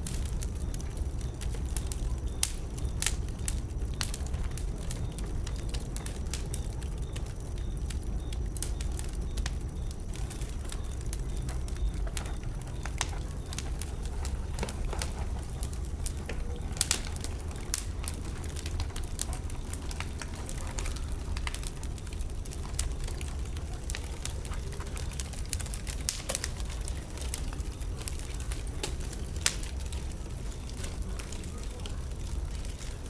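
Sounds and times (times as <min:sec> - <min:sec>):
bonfire crackling and popping: 0:00.0 - 0:33.0
low fire rumble: 0:00.0 - 0:33.0.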